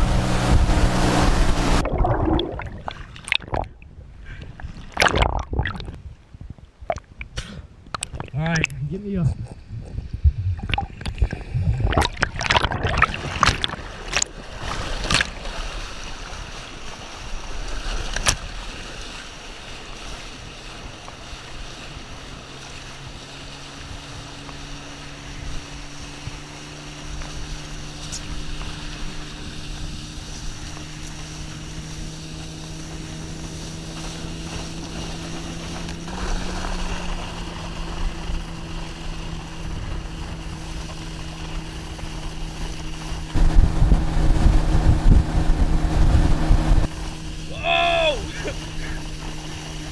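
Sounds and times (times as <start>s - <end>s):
rushing water: 0.0s - 3.7s, 11.9s - 49.9s
motorboat engine hum: 0.0s - 4.8s, 7.8s - 49.9s
water splashing and churning: 0.0s - 6.0s, 10.6s - 49.9s.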